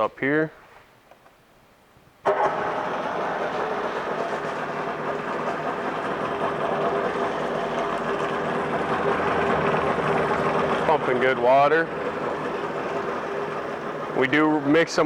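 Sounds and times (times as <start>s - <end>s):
outboard engine idling: 2.3s - 15.0s.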